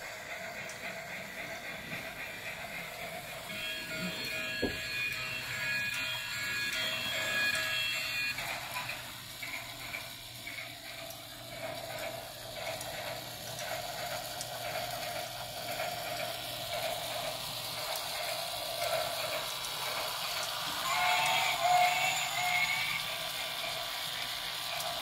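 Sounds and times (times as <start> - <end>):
small electric motors running: 3.0 - 25.0.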